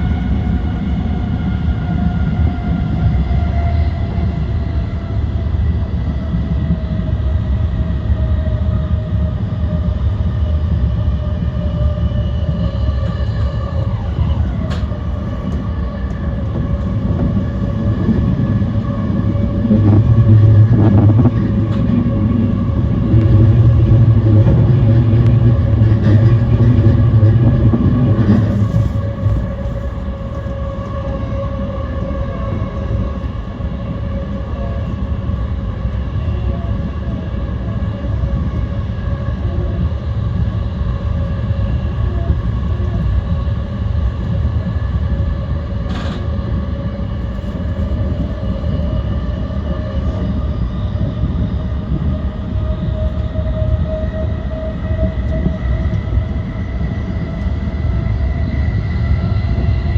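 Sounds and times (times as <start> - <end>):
electric train rumbling on track: 0.0 - 59.9.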